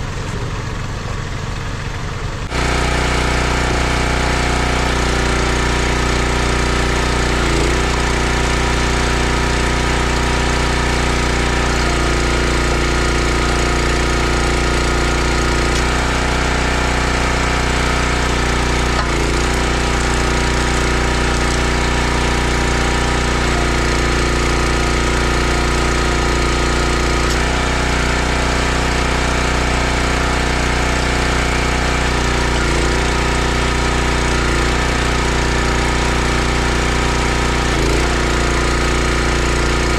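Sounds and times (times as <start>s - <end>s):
small engine running rattly: 0.0s - 39.9s.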